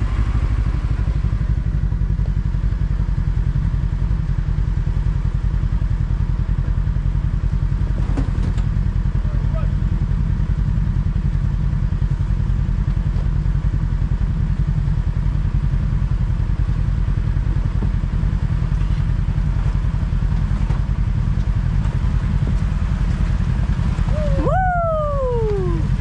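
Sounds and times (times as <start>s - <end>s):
vehicle engine pulsing rumble: 0.0s - 26.0s.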